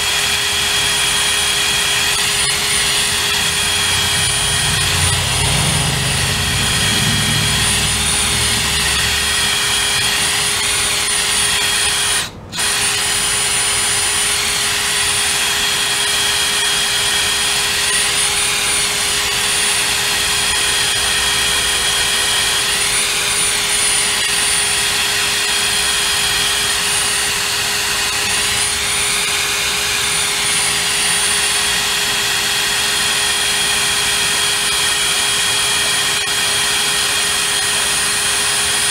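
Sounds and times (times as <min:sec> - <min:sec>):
cordless drill whining: 0:00.0 - 0:38.9.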